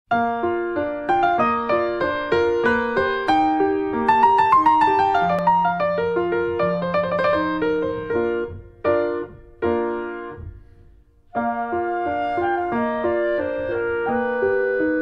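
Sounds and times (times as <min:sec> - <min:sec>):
piano music: 0:00.1 - 0:15.0.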